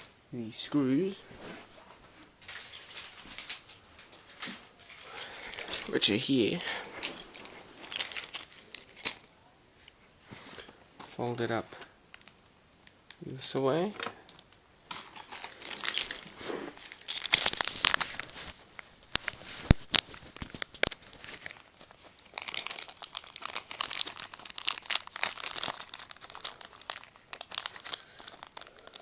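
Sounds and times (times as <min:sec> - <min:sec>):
packet crinkling and rustling: 0:00.8 - 0:09.4, 0:10.3 - 0:29.0.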